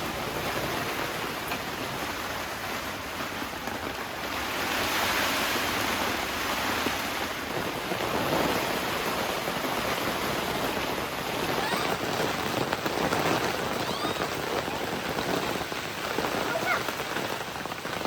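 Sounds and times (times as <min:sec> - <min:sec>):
heavy rain on shelter: 0:00.0 - 0:18.0.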